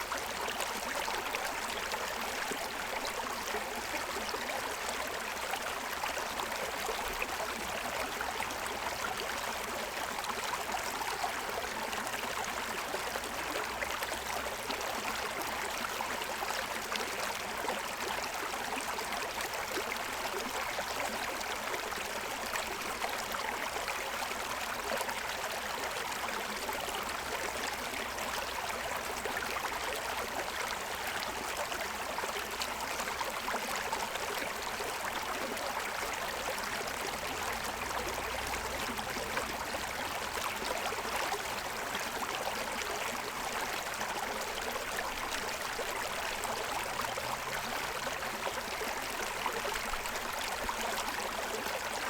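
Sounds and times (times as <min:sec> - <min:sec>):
stream running over stones: 0:00.0 - 0:52.0.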